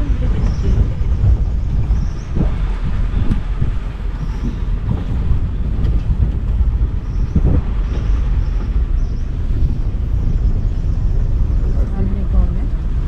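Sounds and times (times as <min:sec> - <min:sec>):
jeep engine and tyres rumbling: 0:00.0 - 0:13.0.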